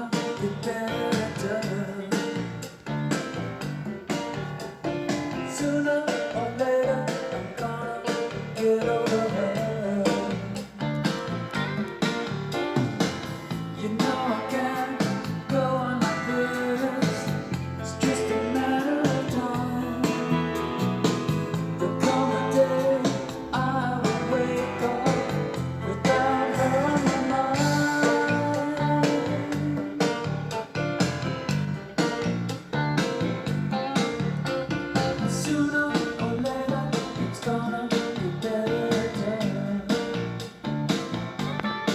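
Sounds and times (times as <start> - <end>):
song with singing and guitar: 0.0 - 41.9.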